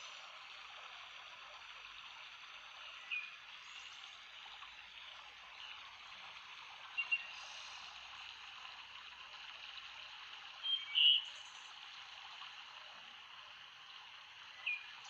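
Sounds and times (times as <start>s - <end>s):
flowing water: 0.0s - 15.0s.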